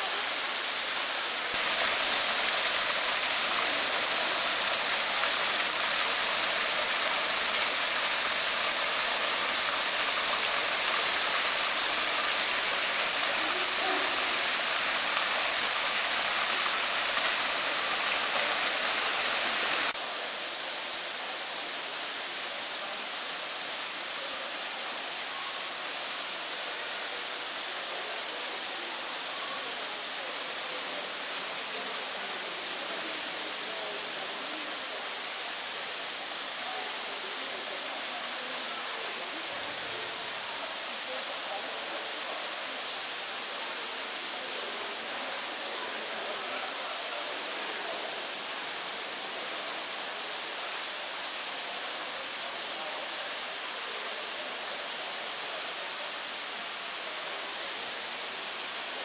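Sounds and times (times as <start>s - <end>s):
waterfall splashing over rocks: 0.0s - 59.0s.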